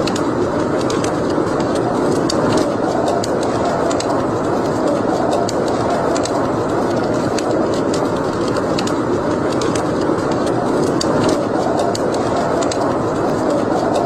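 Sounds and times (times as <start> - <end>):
fire crackling and popping: 0.0 - 14.0
fire rushing: 0.0 - 14.0.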